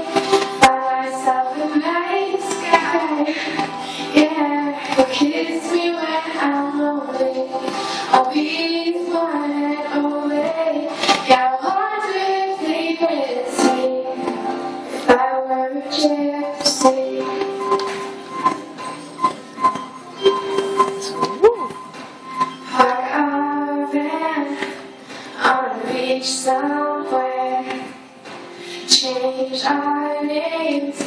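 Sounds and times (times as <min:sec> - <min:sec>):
girl singing into a microphone: 0:00.0 - 0:19.3, 0:22.6 - 0:31.0.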